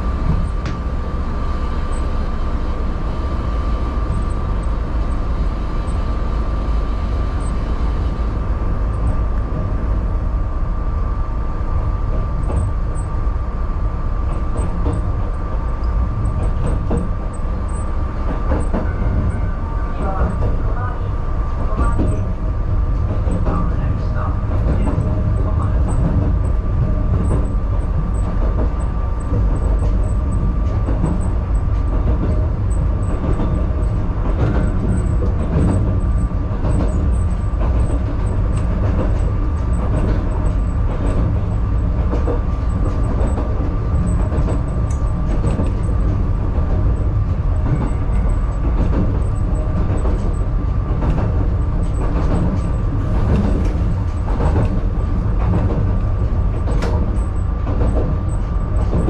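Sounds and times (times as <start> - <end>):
train running gear rumble: 0.0 - 59.0.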